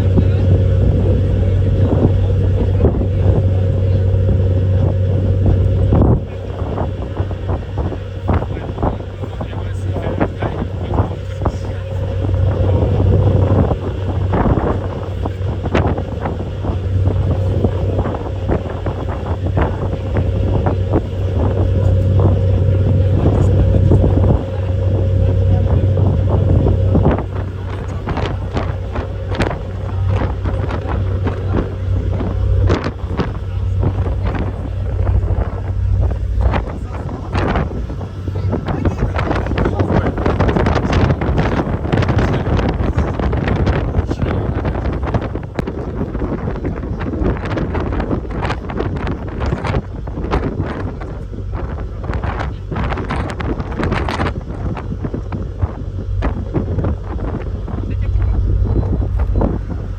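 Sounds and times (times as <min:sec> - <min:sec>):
ferry engines droning: 0:00.0 - 0:59.9
wind buffeting microphone: 0:00.0 - 0:59.9.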